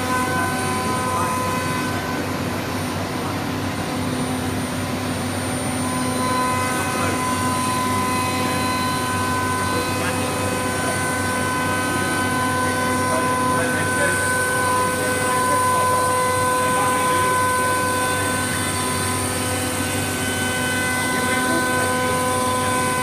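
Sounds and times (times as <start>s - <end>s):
machinery whine: 0.0s - 23.0s.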